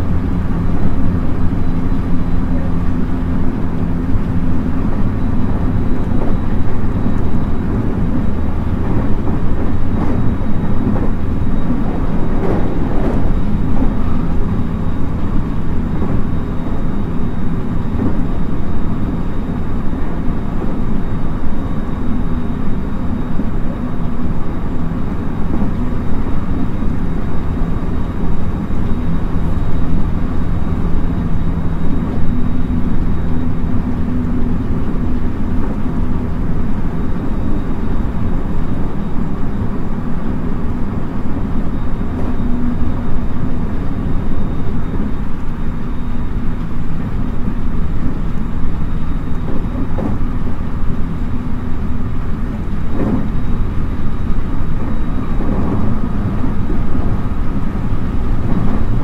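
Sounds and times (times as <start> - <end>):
low hum: 0.0 - 59.0
train wheels rumbling on rail: 0.0 - 59.0.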